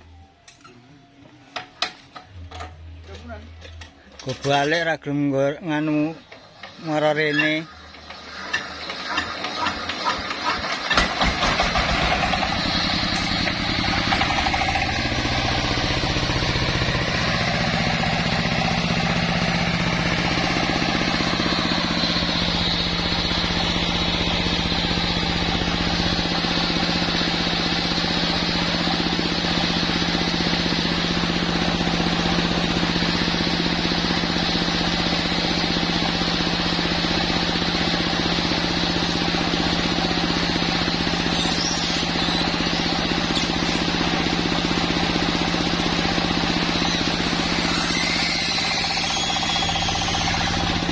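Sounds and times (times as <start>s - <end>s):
sawmill engine running: 4.6s - 50.9s
engine knocks: 7.8s - 50.9s.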